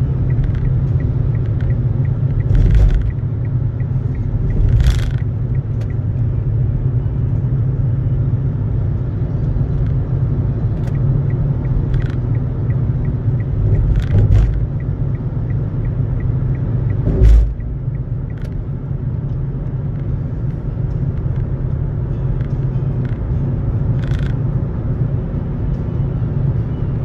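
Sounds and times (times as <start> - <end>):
road and engine rumble in car: 0.0 - 27.0.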